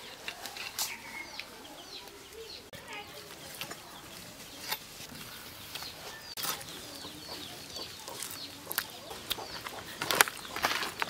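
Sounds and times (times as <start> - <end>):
chickens clucking: 0.0 - 11.0
small birds chirping: 0.0 - 11.0.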